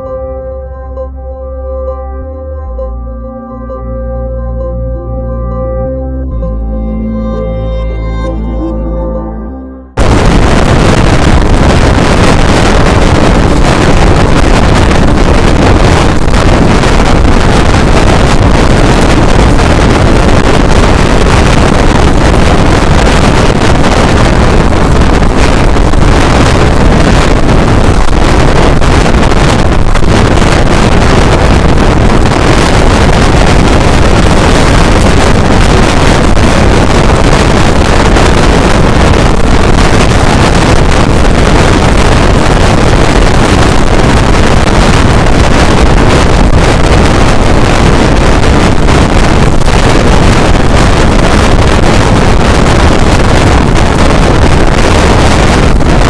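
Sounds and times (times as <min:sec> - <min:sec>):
wind rush on microphone: 0:09.9 - 0:56.0.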